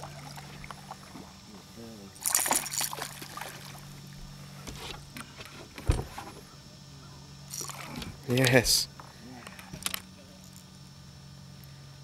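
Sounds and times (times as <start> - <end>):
boat low hum: 0.0 - 12.0.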